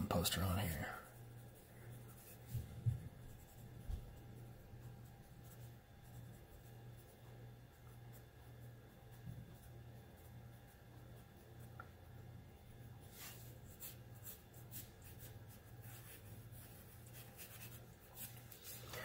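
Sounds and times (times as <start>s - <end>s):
faint low hum: 0.0s - 19.0s
pencil sketching on paper: 0.1s - 18.9s.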